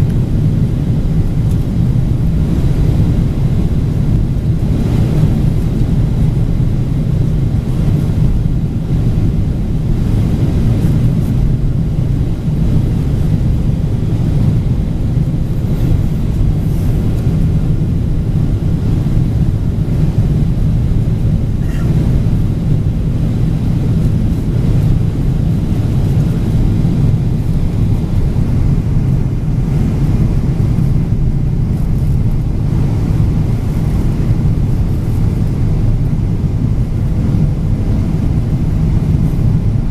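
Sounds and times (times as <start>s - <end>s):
jet airliner cabin rumble: 0.0s - 39.9s.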